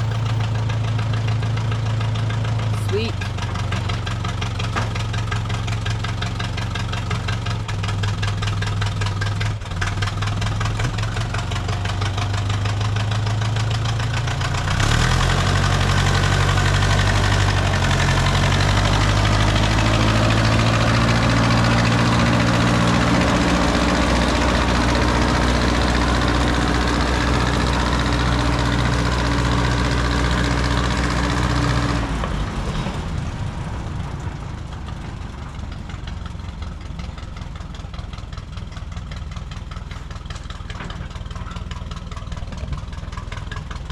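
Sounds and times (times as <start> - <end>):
locomotive engine running: 0.0 - 43.9.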